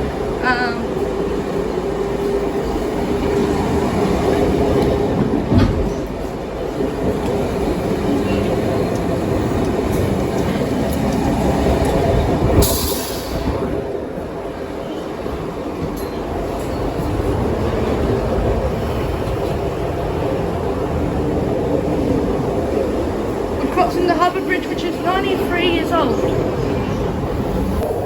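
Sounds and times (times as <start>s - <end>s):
train wheel and rail rumble: 0.0s - 28.0s.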